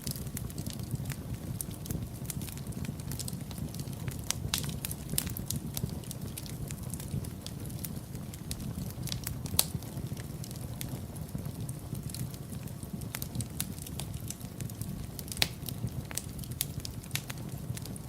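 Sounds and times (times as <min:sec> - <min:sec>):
fire crackling and popping: 0:00.0 - 0:18.0
fire rumbling: 0:00.0 - 0:18.0.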